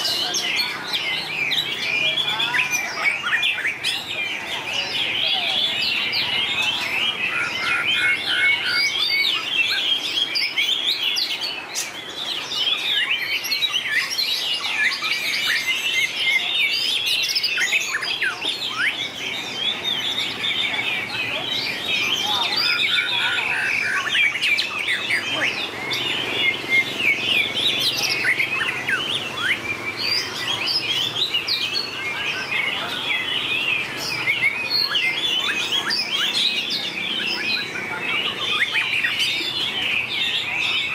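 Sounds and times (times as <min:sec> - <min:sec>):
bird whistling song: 0:00.0 - 0:40.9.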